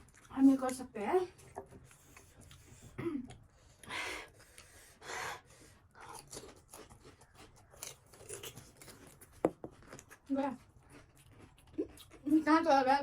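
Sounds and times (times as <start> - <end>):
crunching and chewing food: 0.0 - 13.0.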